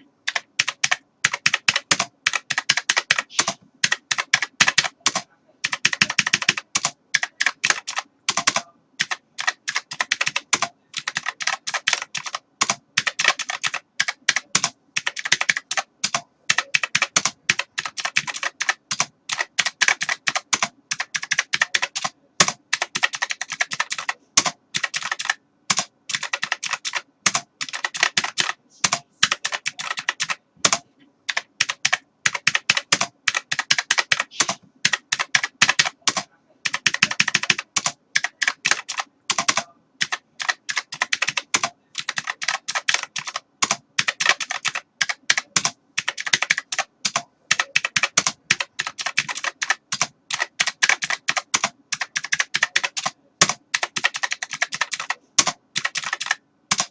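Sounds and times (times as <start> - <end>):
keyboard typing: 0.0 - 56.9.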